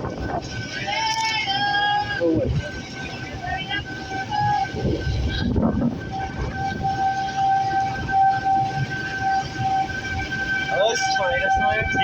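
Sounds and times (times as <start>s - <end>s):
heavy rain: 0.0s - 12.0s
tornado warning siren: 0.0s - 12.0s.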